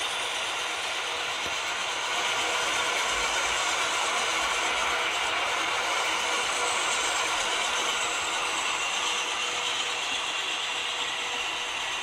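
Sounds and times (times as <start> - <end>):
model train wheels clattering on rail: 0.0 - 12.0.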